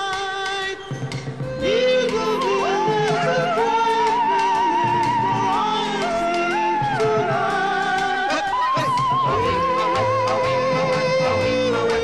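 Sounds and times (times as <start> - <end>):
slow melody with vibrato: 0.7 - 12.0
sustained accompaniment: 0.8 - 12.0.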